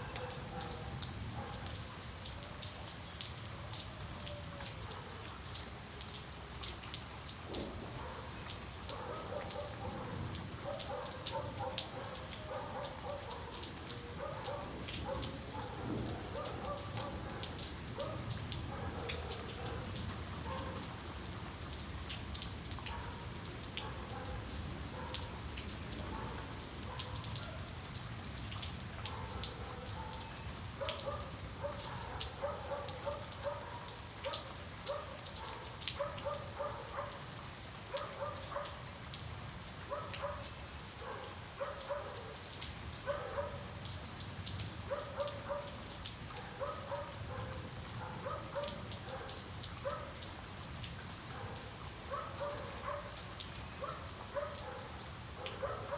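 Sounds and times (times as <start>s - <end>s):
raindrops ticking near microphone: 0.0s - 55.9s
steady rain falling: 0.0s - 55.9s.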